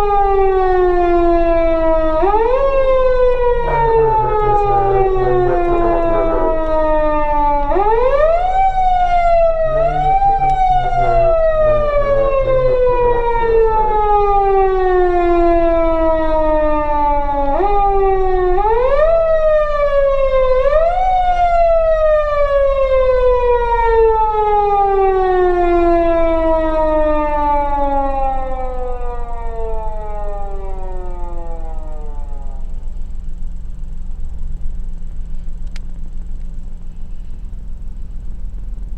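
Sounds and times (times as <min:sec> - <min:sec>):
wailing siren: 0:00.0 - 0:34.2.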